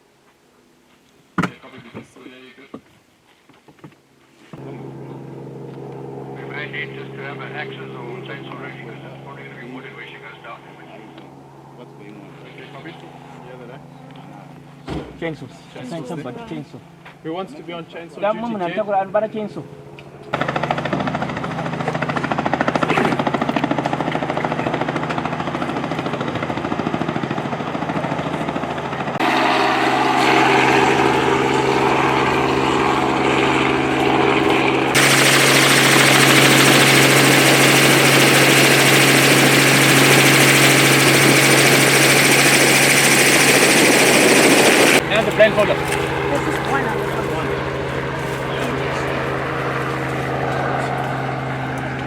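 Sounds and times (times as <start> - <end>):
helicopter running: 4.6 - 52.0.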